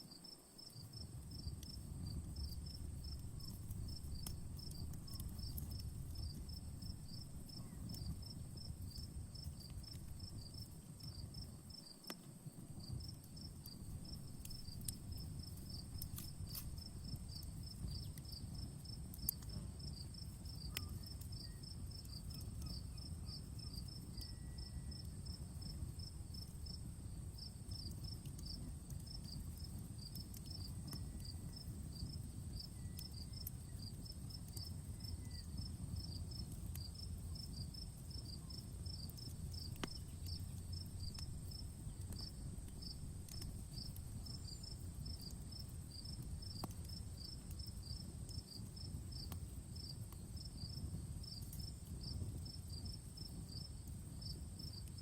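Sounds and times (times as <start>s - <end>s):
crickets chirping: 0.2s - 55.0s
campfire crackling and popping: 0.4s - 55.0s.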